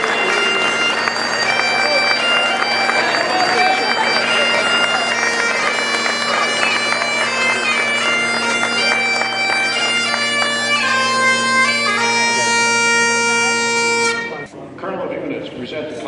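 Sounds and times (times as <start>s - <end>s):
bagpipes playing a tune: 0.0s - 14.5s.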